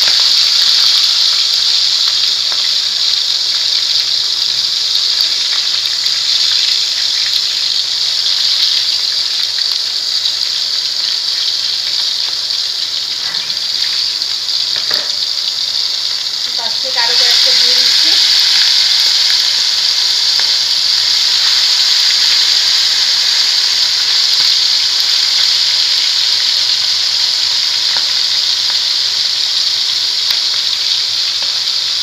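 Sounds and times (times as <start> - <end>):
oil sizzling: 0.0 - 32.0
oil spattering crackles: 0.0 - 32.0.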